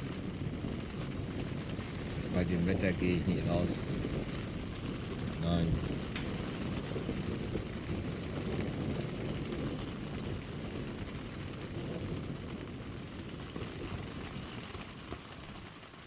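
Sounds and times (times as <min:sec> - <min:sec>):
rain on tent fabric: 0:00.0 - 0:16.0.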